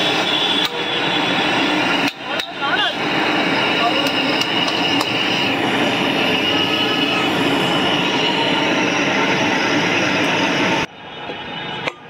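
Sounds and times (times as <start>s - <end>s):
thin high whine: 0.0s - 11.8s
gas burner roaring: 0.0s - 12.0s.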